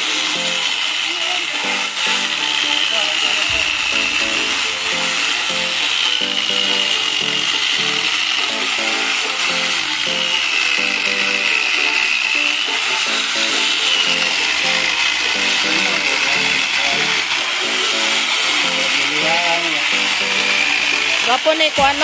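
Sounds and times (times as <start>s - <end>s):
electric chainsaw cutting log: 0.0s - 22.0s
background music with rhythmic beat: 1.6s - 21.3s.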